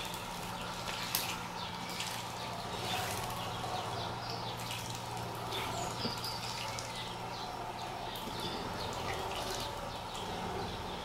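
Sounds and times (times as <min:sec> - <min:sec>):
sparrows chirping: 0:00.0 - 0:11.0
steady low hum: 0:00.0 - 0:11.0
water splashing and dripping: 0:00.0 - 0:11.0.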